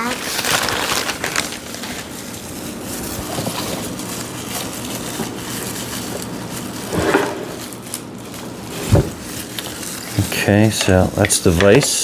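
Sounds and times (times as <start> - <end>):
wrapping rustling: 0.0 - 11.5.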